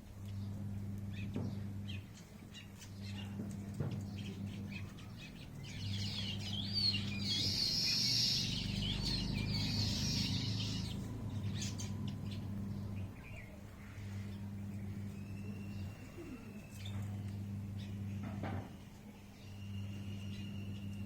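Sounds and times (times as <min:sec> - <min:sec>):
birds chirping: 0:00.0 - 0:21.0
steady low hum: 0:00.0 - 0:21.0.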